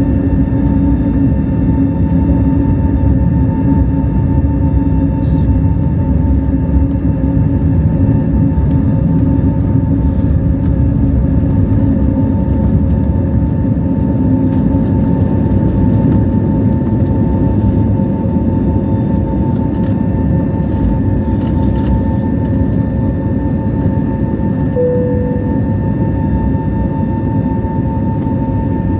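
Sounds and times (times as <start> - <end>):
jet engines and airflow rumbling: 0.0 - 28.9
whining fan tones: 0.0 - 28.9.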